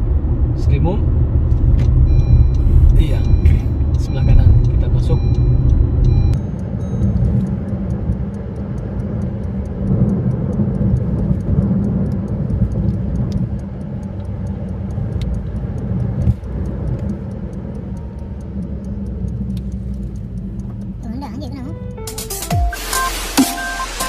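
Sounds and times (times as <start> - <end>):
car engine and tyre noise: 0.0 - 24.0
light rapid ticking: 1.9 - 22.7.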